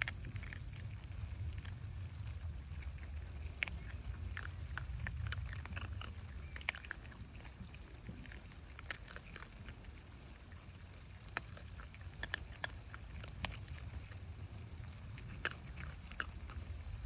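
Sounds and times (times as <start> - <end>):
animals crunching dry kibble: 0.0 - 17.0
low steady rumble: 0.0 - 17.0.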